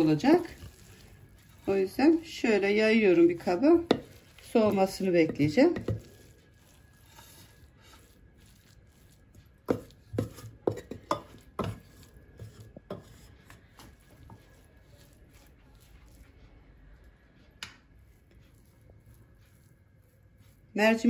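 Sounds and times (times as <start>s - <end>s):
wooden spoon scraping a pot: 0.0s - 16.6s, 18.0s - 21.0s.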